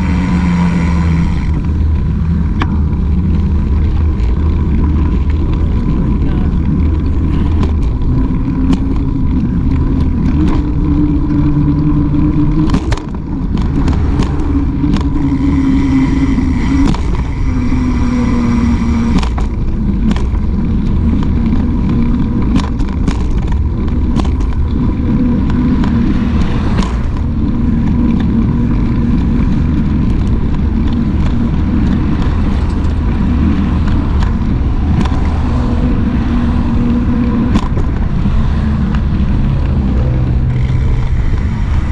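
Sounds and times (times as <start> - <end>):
bike rolling on concrete rumble: 0.0 - 41.9
road traffic: 0.0 - 41.9.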